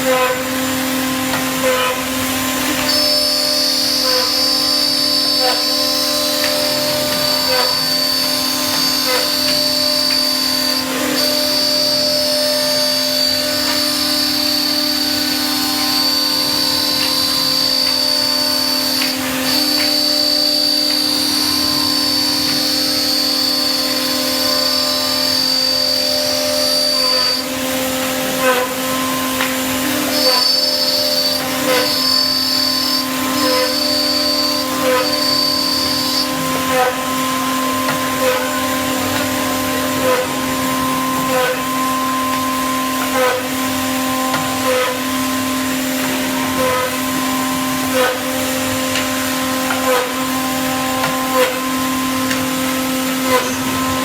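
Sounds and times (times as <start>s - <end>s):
router spindles whining: 0.0s - 54.0s.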